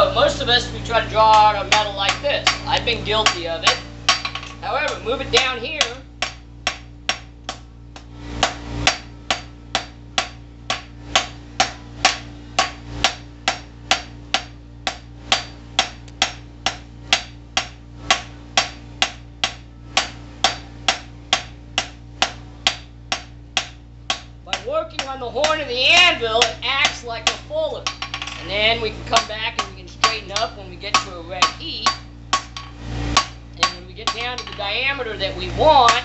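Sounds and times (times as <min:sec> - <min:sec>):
hammer striking metal on anvil: 0:01.3 - 0:28.5, 0:29.2 - 0:34.7.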